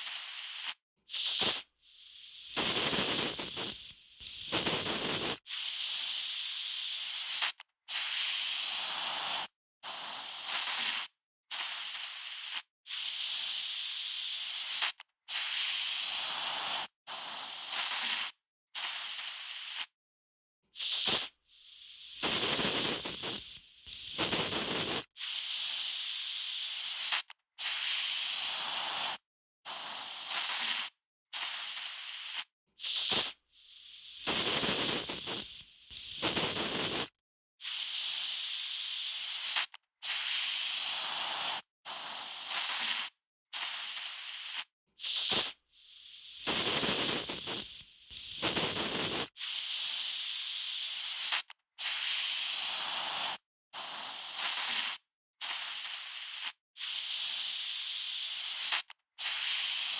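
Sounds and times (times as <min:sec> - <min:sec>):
aerosol spray can hissing: 0:00.0 - 0:19.9, 0:20.8 - 0:59.9.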